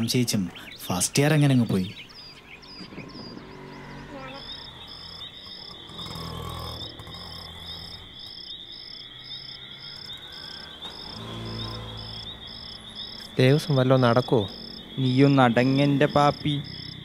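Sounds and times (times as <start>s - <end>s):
crickets trilling: 0.0s - 17.0s
insect chirping steadily: 0.0s - 17.0s.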